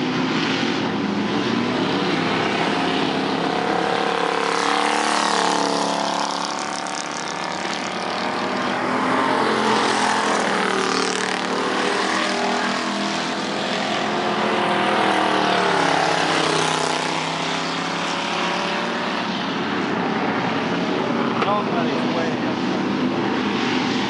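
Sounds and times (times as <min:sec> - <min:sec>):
race car engines: 0:00.0 - 0:24.0.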